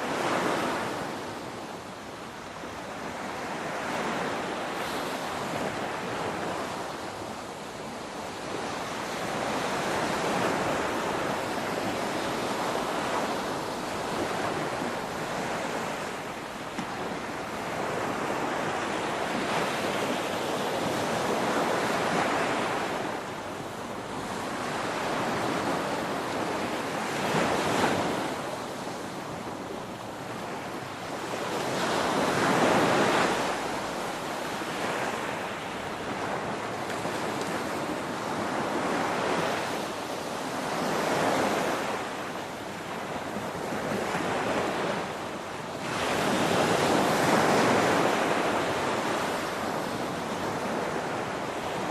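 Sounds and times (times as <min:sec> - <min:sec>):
ocean waves breaking on shore: 0:00.0 - 0:51.9.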